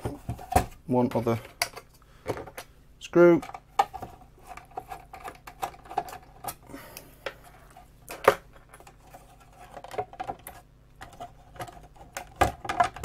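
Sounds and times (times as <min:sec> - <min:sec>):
plastic parts clicking and tapping: 0:00.0 - 0:02.7, 0:03.3 - 0:06.6, 0:07.2 - 0:13.0.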